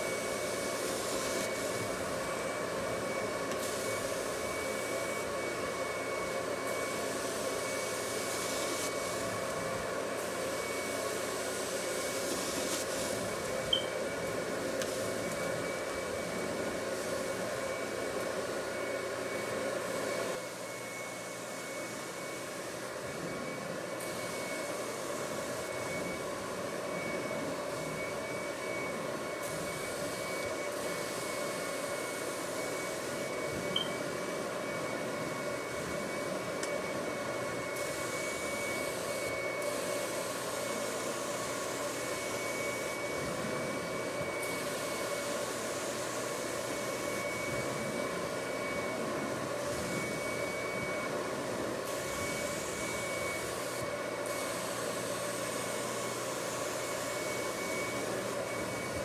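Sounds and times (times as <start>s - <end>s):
carpet extractor suction whine: 0.0s - 59.0s.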